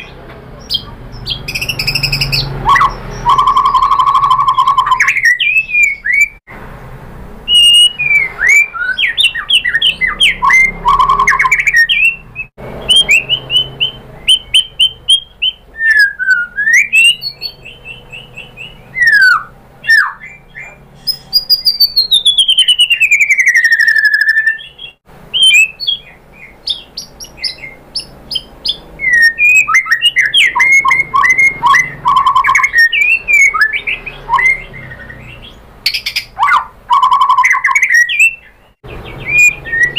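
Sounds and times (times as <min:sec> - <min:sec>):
songbird singing varied song: 0:00.0 - 0:06.4, 0:07.5 - 0:39.9.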